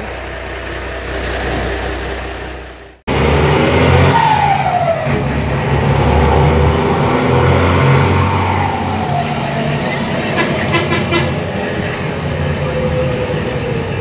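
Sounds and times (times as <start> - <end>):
diesel bus engine running: 0.0 - 14.0.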